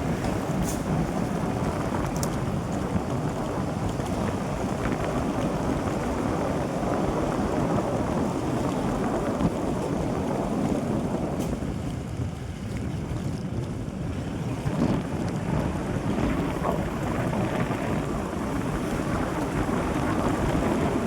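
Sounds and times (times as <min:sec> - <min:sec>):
pickup truck driving rumble: 0:00.0 - 0:12.4, 0:13.4 - 0:21.0
wind noise on microphone: 0:00.0 - 0:21.0.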